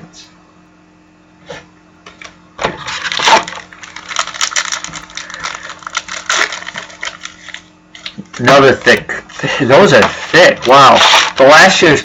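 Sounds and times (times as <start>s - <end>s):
card packaging crinkling: 2.1s - 12.0s
cards being handled: 2.1s - 12.0s.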